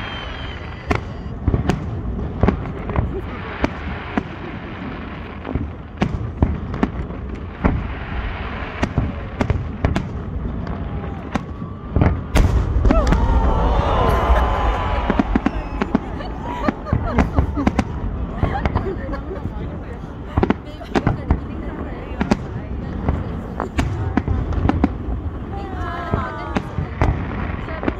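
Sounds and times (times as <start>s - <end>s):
fireworks bangs: 0.0s - 27.9s.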